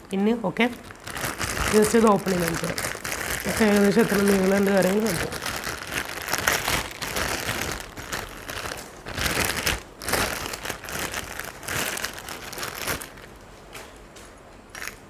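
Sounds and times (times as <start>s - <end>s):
plastic packaging crinkling: 0.0s - 14.1s, 14.7s - 15.0s.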